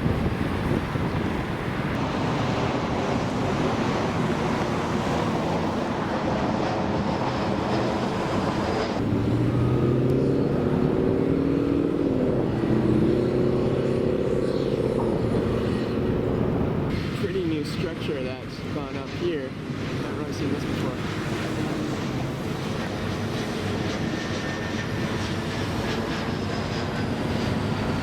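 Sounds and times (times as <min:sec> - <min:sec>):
engine running with wavering hum: 0:00.0 - 0:17.1, 0:19.6 - 0:28.0
steady rushing noise: 0:00.0 - 0:28.0.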